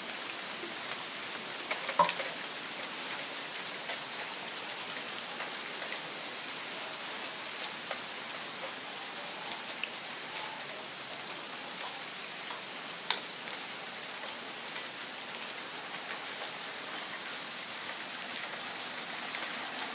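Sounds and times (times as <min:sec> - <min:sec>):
hail and rain falling: 0:00.0 - 0:19.9.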